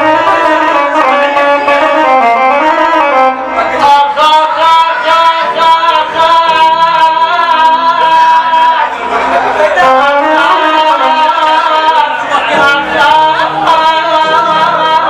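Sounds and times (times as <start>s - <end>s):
melodic vocal line: 0.0s - 15.0s
musical accompaniment: 0.0s - 15.0s.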